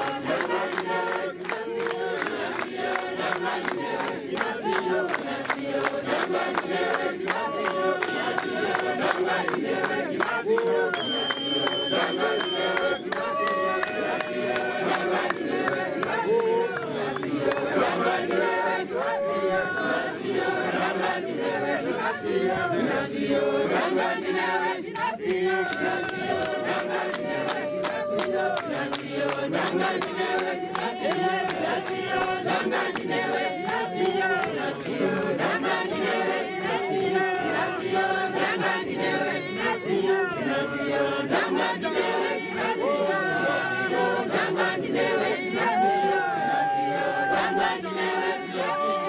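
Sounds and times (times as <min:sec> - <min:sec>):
congregation singing a hymn: 0:00.0 - 0:49.0.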